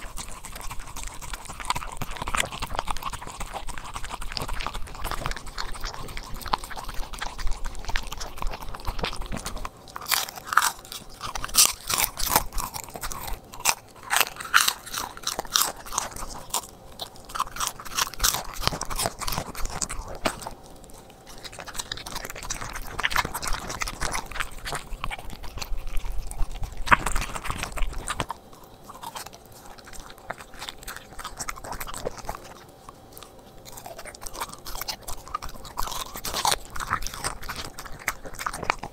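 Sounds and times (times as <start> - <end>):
dog crunching food: 0.0 - 38.9.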